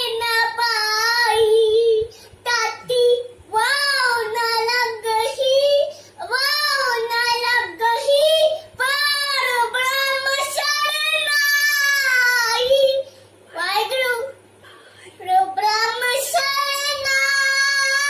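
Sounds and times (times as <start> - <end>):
boy singing unaccompanied: 0.0 - 14.4, 15.2 - 18.0.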